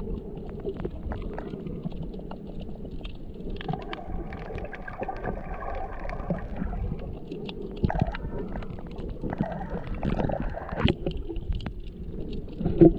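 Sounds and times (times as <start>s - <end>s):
sharp clicks and crackles: 0.0s - 12.9s
water sloshing and bubbling: 0.0s - 12.9s.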